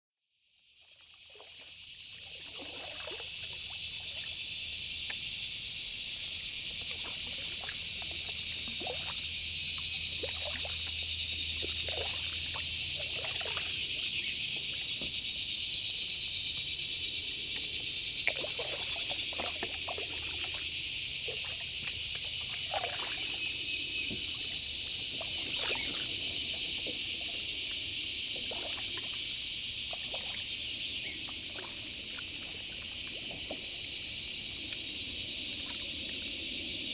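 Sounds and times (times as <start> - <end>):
steady high-pitched hiss: 0.2 - 36.9
creek water trickling and dripping: 0.5 - 36.9.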